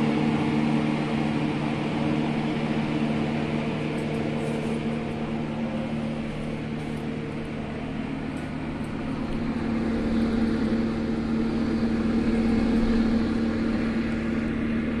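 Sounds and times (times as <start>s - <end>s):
electric fan motor humming: 0.0s - 15.0s.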